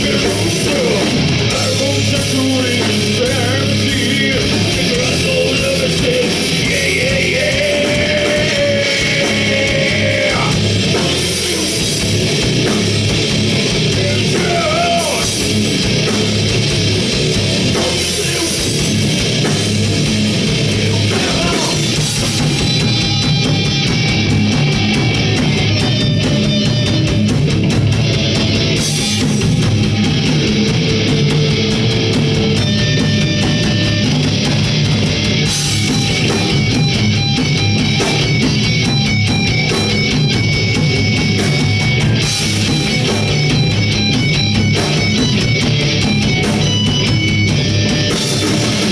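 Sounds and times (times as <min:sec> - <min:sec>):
drum kit: 0:00.0 - 0:48.9
electric guitars: 0:00.0 - 0:48.9
heavy metal band playing: 0:00.0 - 0:48.9.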